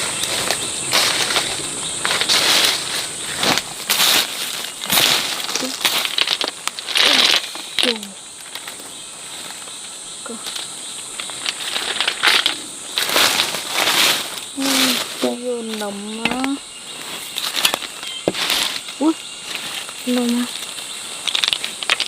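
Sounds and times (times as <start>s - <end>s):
insects droning: 0.0s - 22.0s
rustling and crunching: 0.0s - 22.0s.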